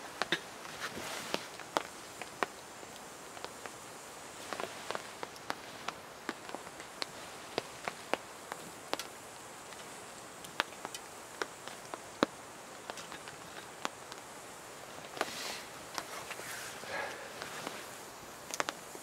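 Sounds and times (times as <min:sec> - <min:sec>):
campfire crackling and popping: 0:00.0 - 0:19.0
steady fire hiss: 0:00.0 - 0:19.0.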